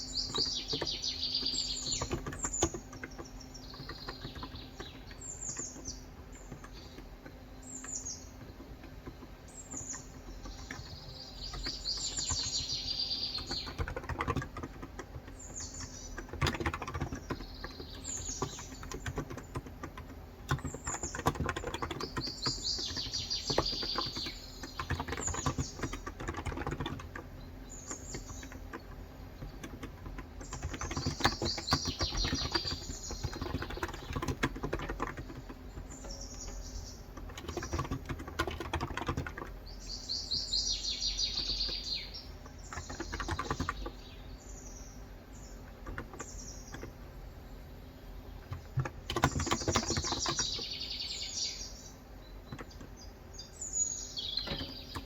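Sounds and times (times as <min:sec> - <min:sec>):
bird trilling song: 0:00.0 - 0:19.6, 0:20.5 - 0:55.0
keyboard typing: 0:00.0 - 0:40.1, 0:41.1 - 0:44.2, 0:45.5 - 0:47.2, 0:48.4 - 0:50.8, 0:52.3 - 0:53.1, 0:54.4 - 0:55.0.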